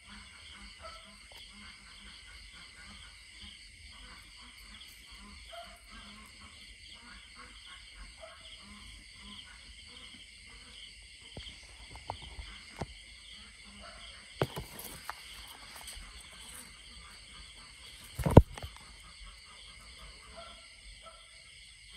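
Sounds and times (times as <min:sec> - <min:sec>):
insects trilling: 0:00.0 - 0:21.9.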